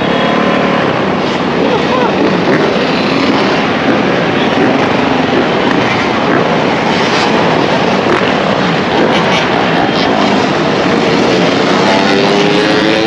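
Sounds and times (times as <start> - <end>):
dirt bike engines running: 0.0 - 13.0.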